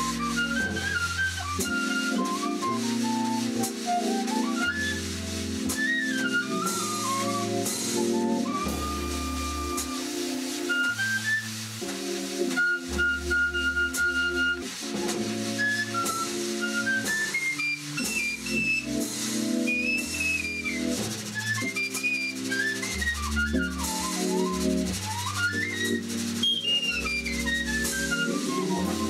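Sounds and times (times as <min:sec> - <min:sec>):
organ chords: 0:00.0 - 0:21.2, 0:21.8 - 0:29.0
drum kit cymbals: 0:00.0 - 0:29.0
whistled melody: 0:00.0 - 0:29.0.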